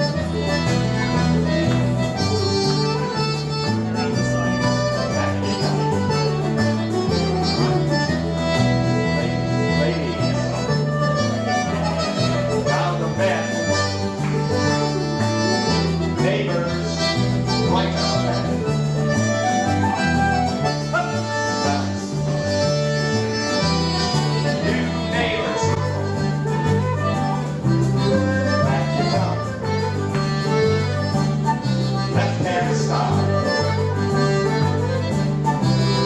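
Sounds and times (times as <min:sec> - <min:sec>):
dance band playing upbeat tune: 0:00.0 - 0:36.0
steady bass line: 0:00.0 - 0:36.0.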